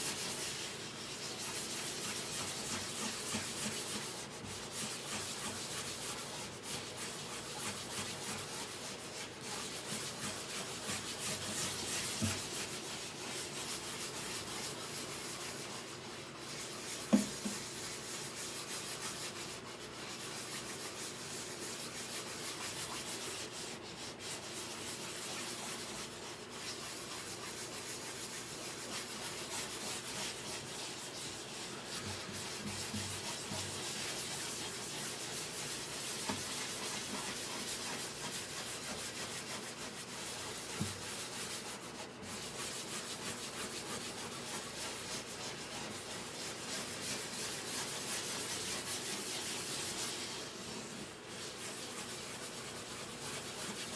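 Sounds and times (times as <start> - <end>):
hand sanding wood: 0.0 - 53.9.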